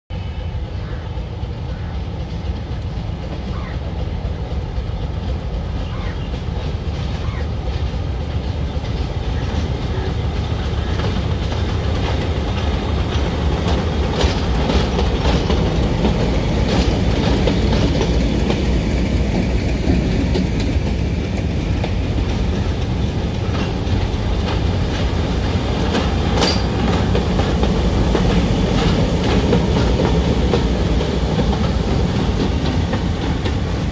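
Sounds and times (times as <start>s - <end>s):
diesel locomotive engine rumbling: 0.1s - 33.9s
wheels clicking over rail joints: 6.6s - 33.9s.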